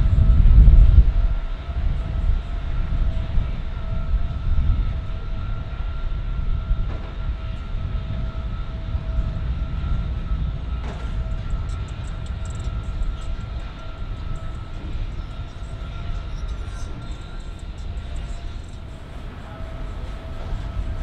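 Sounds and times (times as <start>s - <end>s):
boat engine rumble: 0.0s - 21.0s
faint steady whine: 0.0s - 21.0s.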